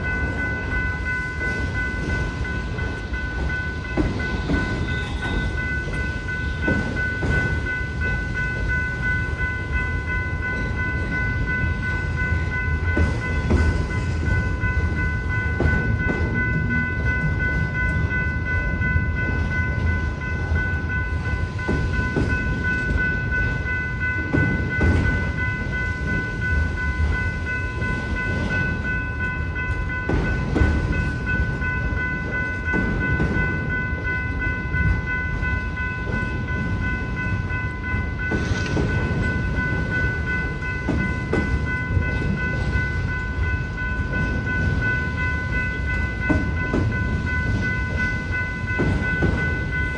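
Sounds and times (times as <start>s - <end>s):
freight train rumbling: 0.0s - 49.9s
wheels clacking on rails: 0.0s - 49.9s.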